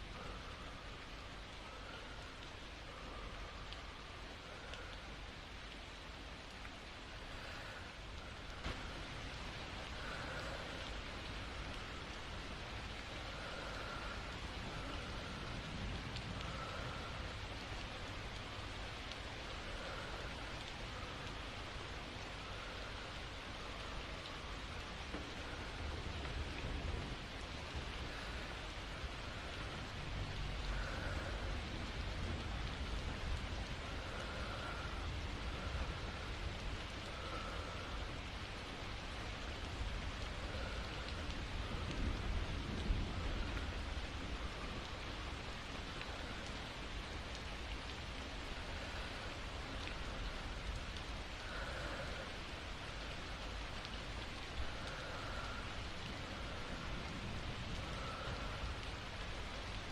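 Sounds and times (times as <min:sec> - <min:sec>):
raindrop ticks: 0:00.0 - 0:59.9
steady rain falling: 0:00.0 - 0:59.9.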